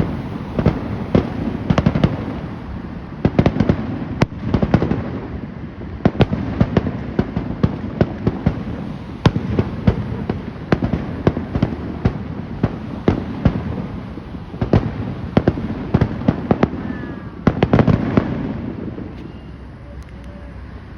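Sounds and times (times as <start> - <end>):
fireworks bangs and cracks: 0.0 - 19.4.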